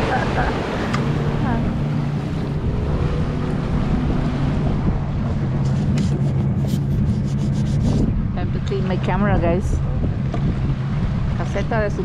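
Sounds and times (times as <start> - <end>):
outboard motor running: 0.0 - 12.0
rushing water: 0.0 - 12.0
wind on microphone: 0.0 - 12.0.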